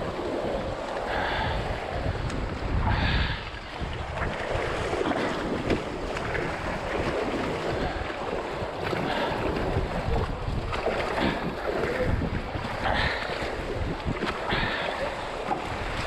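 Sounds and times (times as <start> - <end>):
river water rushing and splashing: 0.0 - 16.0
wind buffeting microphone: 0.0 - 16.0.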